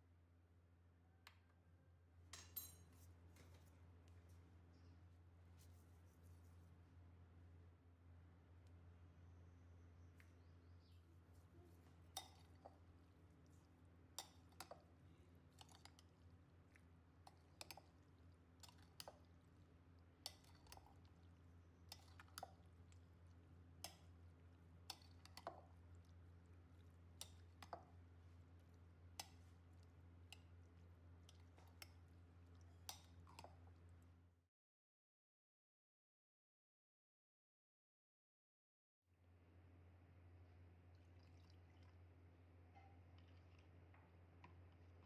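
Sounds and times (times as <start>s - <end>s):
low steady hum: 0.0s - 34.4s, 39.2s - 45.0s.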